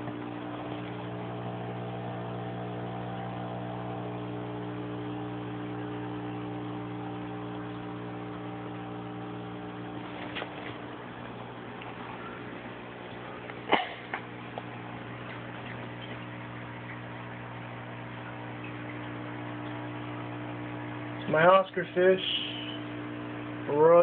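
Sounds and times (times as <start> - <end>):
aquarium air pump humming: 0.0 - 24.0.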